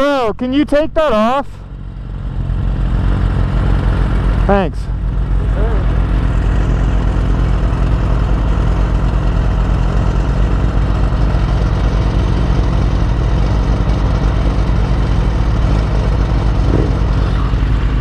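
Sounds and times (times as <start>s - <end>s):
motorcycle engine idling: 0.8s - 18.0s.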